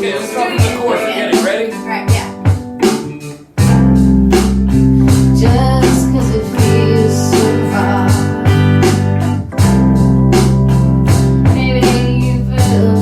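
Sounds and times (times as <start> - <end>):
guitar-led band music: 0.0 - 13.0.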